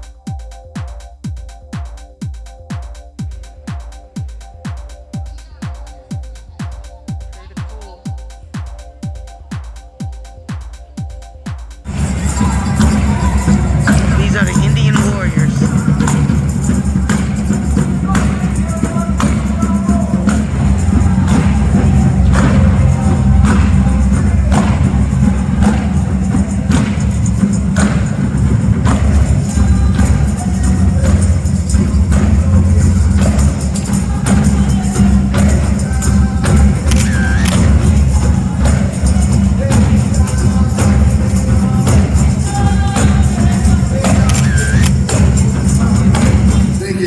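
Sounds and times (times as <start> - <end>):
tambourines and drums playing: 0.0 - 47.0.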